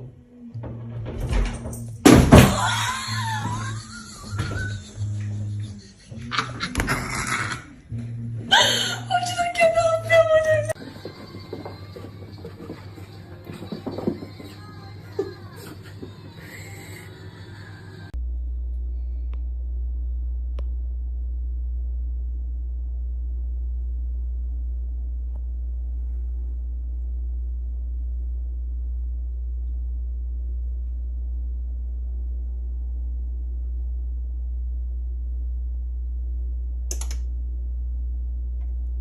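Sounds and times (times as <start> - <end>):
very low hum: 0.0 - 39.0.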